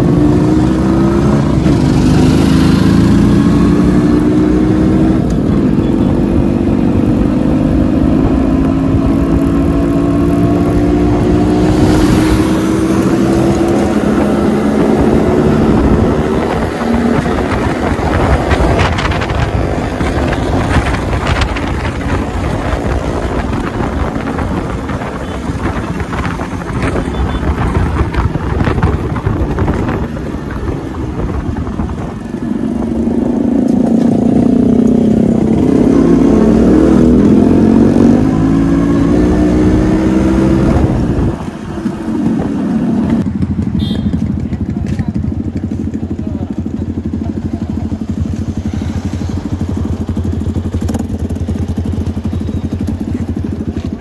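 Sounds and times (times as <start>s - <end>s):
wind rushing over microphone: 0.0s - 43.9s
motorcycle engines running: 0.0s - 54.0s.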